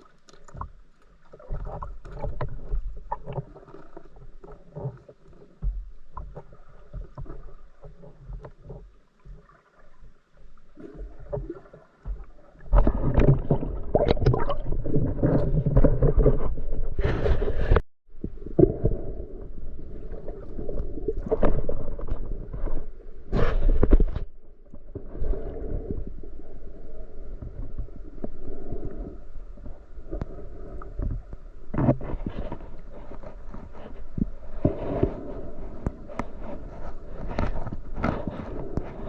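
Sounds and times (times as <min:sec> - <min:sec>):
water sloshing and gurgling: 0:00.0 - 0:39.0.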